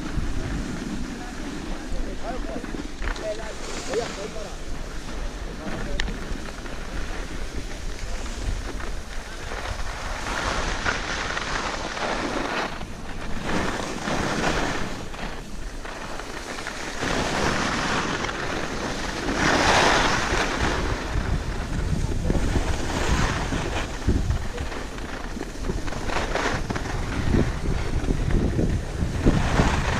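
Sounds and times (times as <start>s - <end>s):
skis scraping over snow: 0.0s - 29.9s
wind rushing over microphone: 0.0s - 29.9s.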